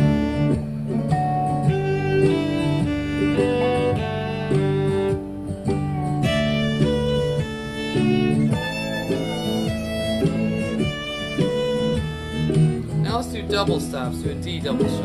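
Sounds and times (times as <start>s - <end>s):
fiddle playing bowed notes: 0.0s - 13.7s
bass: 0.0s - 15.0s
strummed acoustic guitar: 0.0s - 15.0s.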